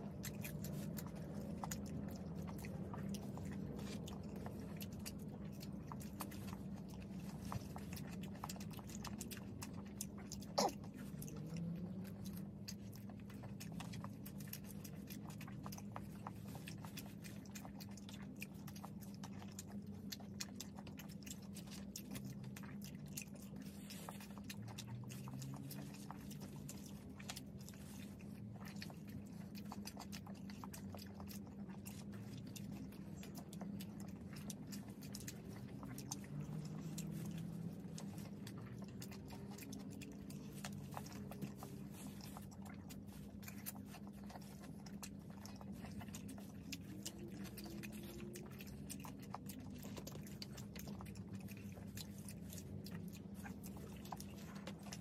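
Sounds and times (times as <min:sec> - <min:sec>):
chewing and crunching food: 0:00.0 - 0:55.0
steady low hum: 0:00.0 - 0:55.0
wet mouth clicks: 0:00.0 - 0:55.0.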